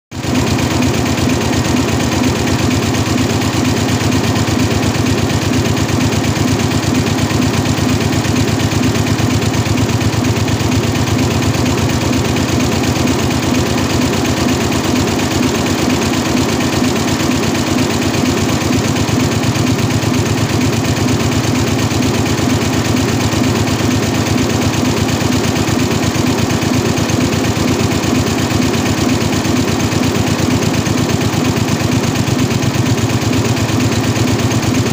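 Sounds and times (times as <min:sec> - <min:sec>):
embroidery machine stitching: 0:00.2 - 0:34.9.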